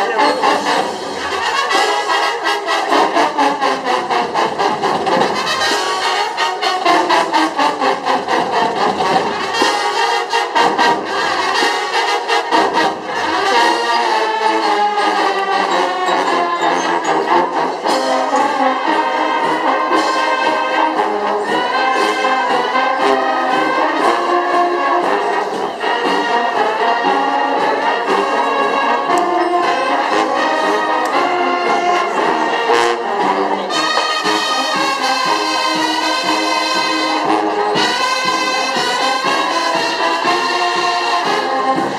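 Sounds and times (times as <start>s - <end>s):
marching drum strokes: 0.0s - 41.9s
trumpets and trombones melody: 0.0s - 41.9s.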